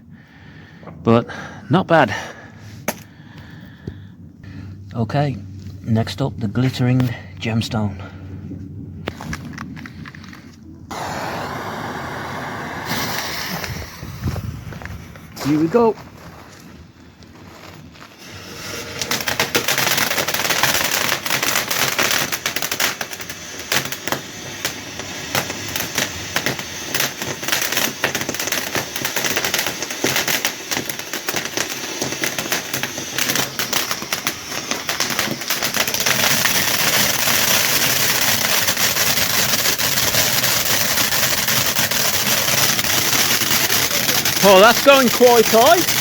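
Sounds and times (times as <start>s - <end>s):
firework fountain crackling: 9.1s - 46.0s.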